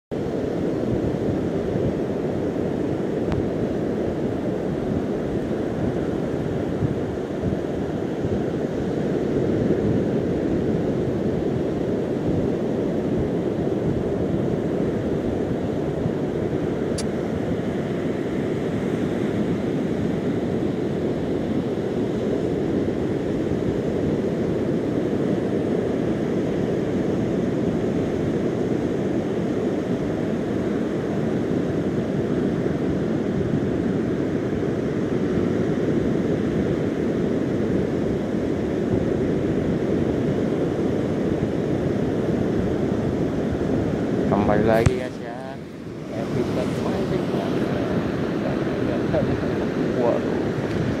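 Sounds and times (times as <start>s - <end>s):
surf washing on shore: 0.1s - 51.0s
wind on microphone: 0.1s - 51.0s.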